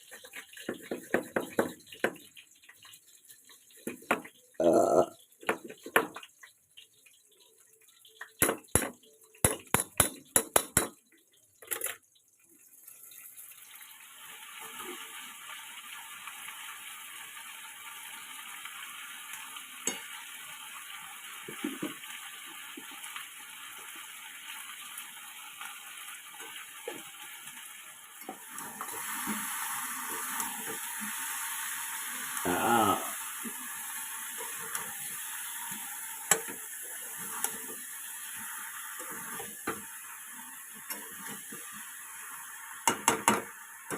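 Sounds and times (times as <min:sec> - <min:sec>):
food sizzling in a pan: 0:00.0 - 0:43.9.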